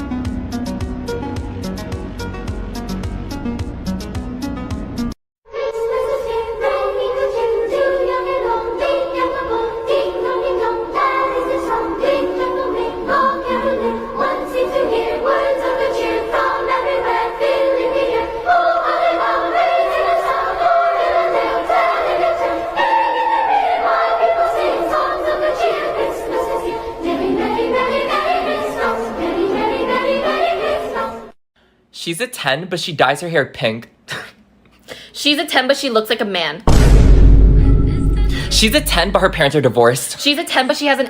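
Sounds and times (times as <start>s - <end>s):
choir-like singing with music: 0.0s - 31.4s, 36.7s - 40.0s.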